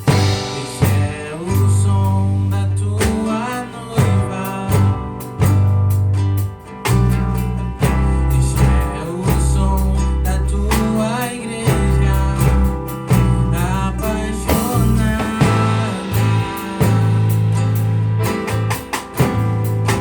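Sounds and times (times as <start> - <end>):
gospel band playing: 0.0 - 20.0
guitar: 0.0 - 20.0
heavy bass line: 0.0 - 20.0.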